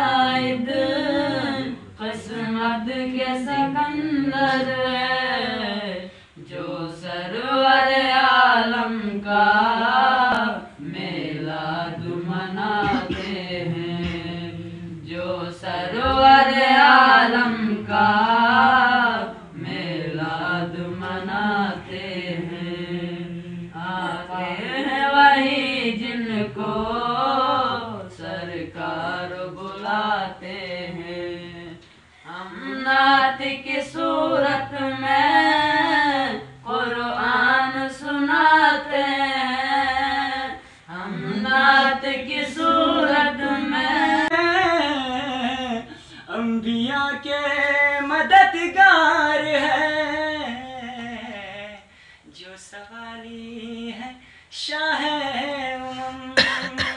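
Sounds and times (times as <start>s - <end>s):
person singing unaccompanied: 0.0s - 56.9s.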